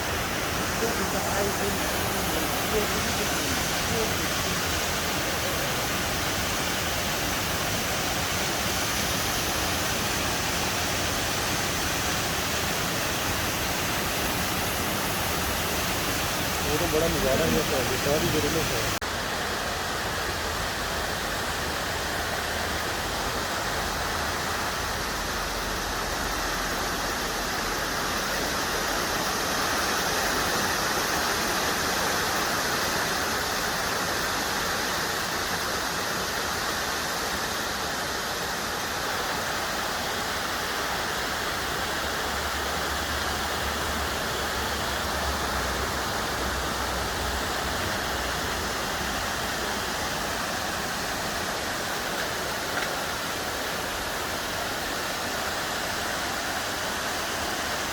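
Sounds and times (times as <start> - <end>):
waterfall rushing over rocks: 0.0 - 57.9.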